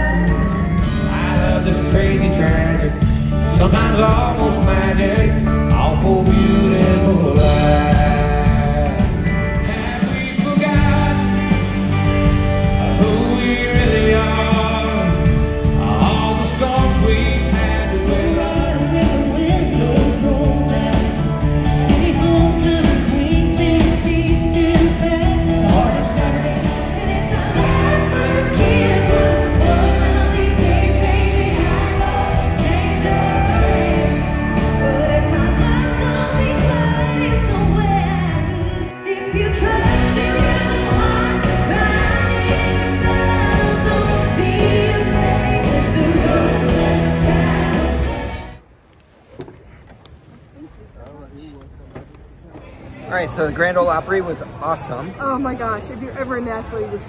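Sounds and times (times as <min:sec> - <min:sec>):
lead and harmony singing: 0:00.0 - 0:48.6
live country band: 0:00.0 - 0:48.6.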